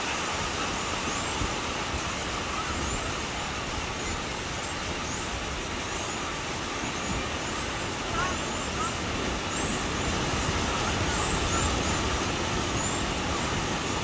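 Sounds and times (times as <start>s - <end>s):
surf washing up beach: 0.0s - 14.0s.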